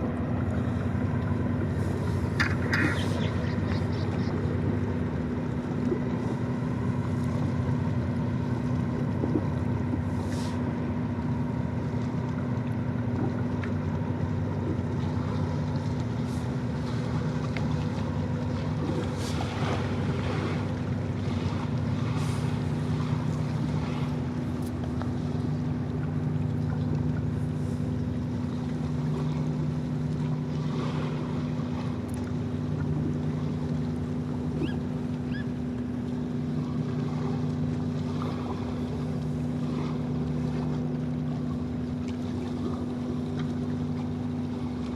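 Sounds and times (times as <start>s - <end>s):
diesel engines droning: 0.0s - 44.9s.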